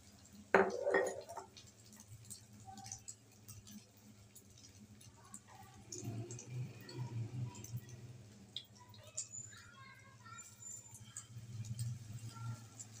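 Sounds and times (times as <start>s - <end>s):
oil crackling and popping: 0.0s - 0.5s, 1.2s - 13.0s
kebab frying in hot oil: 0.0s - 13.0s.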